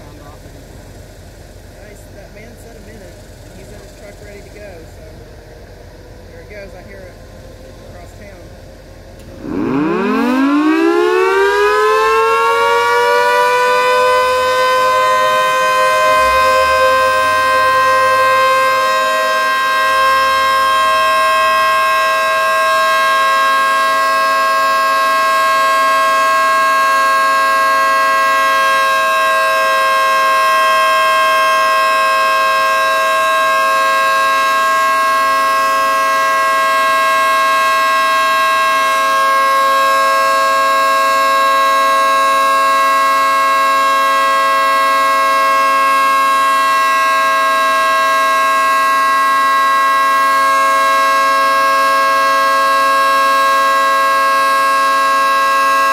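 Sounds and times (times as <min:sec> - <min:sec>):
two-tone warning siren: 0:01.8 - 0:55.9.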